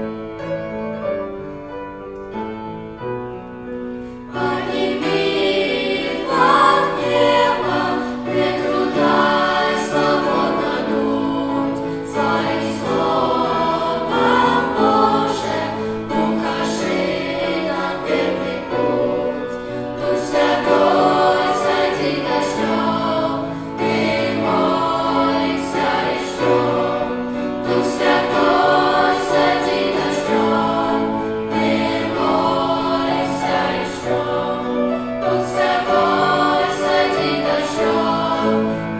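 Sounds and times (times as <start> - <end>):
children's choir singing: 4.2 - 38.9.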